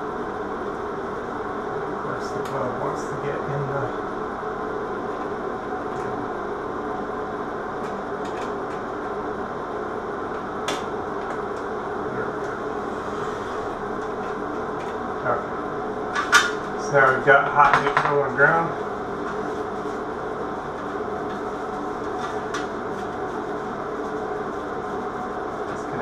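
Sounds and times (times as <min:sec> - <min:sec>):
ventilation fan hum: 0:00.0 - 0:26.0.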